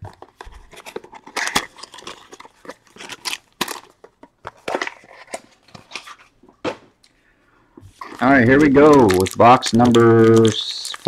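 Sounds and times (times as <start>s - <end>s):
plastic wrap crinkling: 0.0s - 6.4s, 7.9s - 11.0s.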